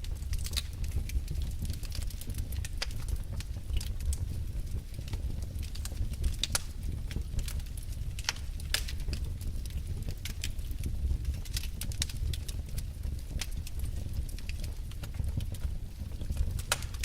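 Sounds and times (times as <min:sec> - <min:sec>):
logs crackling and popping: 0:00.0 - 0:17.0
low roar of flames: 0:00.0 - 0:17.0.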